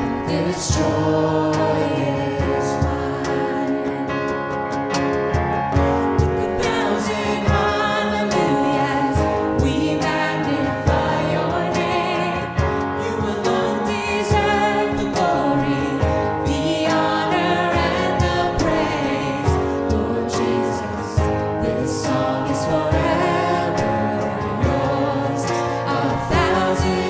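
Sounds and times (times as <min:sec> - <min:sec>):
voices singing together: 0:00.0 - 0:04.8, 0:05.8 - 0:27.0
band playing: 0:00.0 - 0:27.0.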